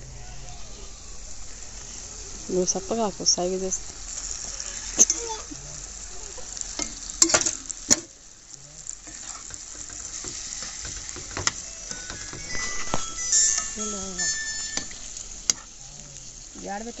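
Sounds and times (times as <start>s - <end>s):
meat sizzling in masala: 0.0s - 17.0s.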